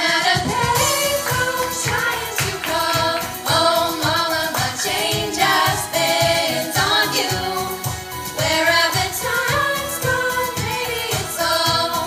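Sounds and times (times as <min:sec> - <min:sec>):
women singing pop harmonies: 0:00.0 - 0:12.0
steady beat: 0:00.4 - 0:12.0.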